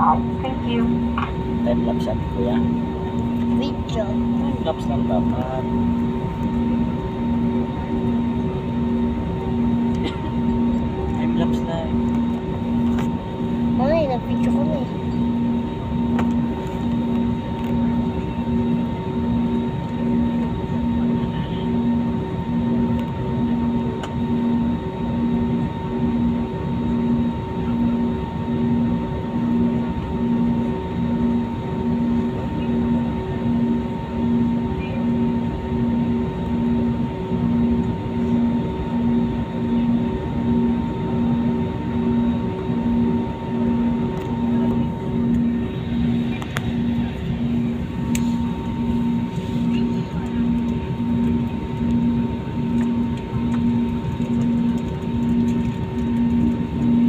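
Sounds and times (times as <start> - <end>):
airliner cabin rumble and hiss: 0.0 - 57.0
faint steady whine: 0.0 - 57.0
pulsing low hum: 0.0 - 57.0.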